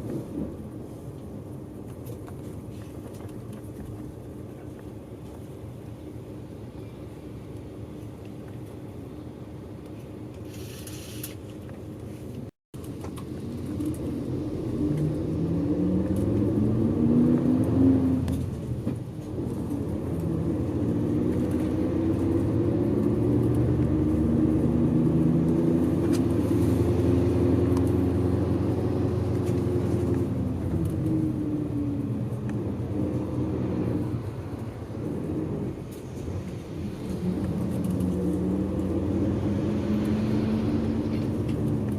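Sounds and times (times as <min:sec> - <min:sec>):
bus engine from inside: 0:00.0 - 0:41.9.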